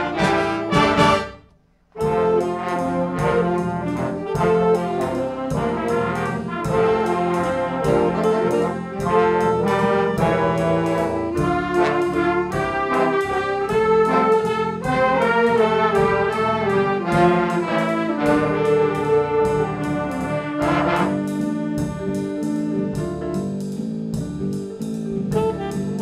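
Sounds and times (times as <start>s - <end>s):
brass band playing melody: 0.0s - 23.6s, 24.4s - 26.0s.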